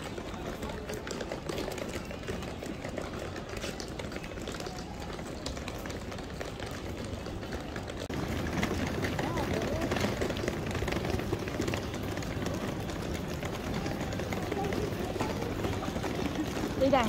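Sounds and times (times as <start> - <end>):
suitcase wheels rumbling on tiles: 0.0 - 17.0.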